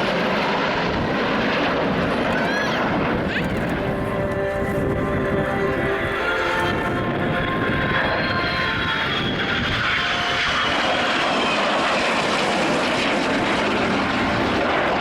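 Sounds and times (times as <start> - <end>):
aircraft engines roaring overhead: 0.0 - 15.0.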